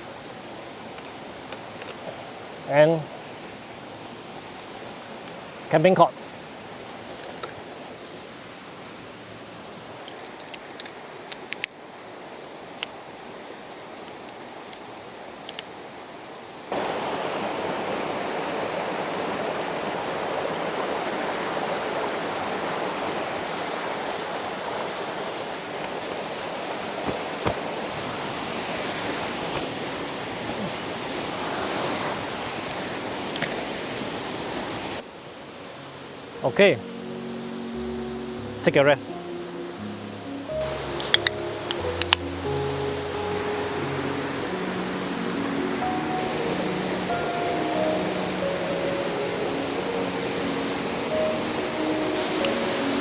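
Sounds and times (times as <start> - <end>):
rushing river water: 0.0 - 53.0.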